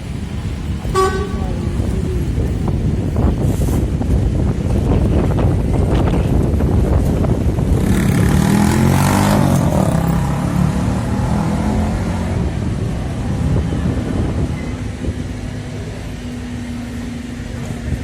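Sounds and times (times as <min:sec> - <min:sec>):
bus diesel engine running: 0:00.0 - 0:07.8, 0:09.5 - 0:18.0
wind buffeting microphone: 0:00.0 - 0:10.3, 0:10.9 - 0:16.2.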